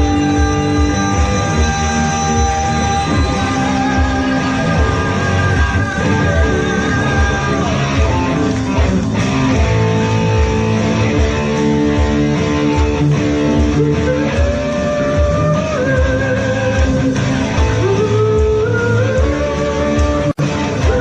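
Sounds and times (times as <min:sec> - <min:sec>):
band playing instrumental music: 0:00.0 - 0:21.0.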